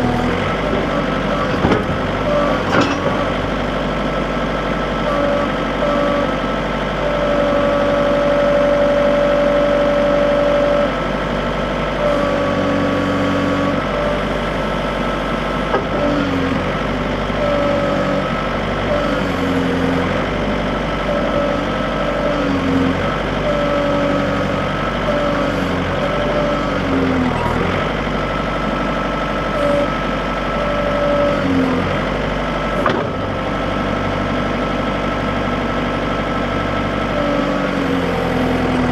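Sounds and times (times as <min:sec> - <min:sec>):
backhoe diesel engine under load: 0:00.0 - 0:38.9.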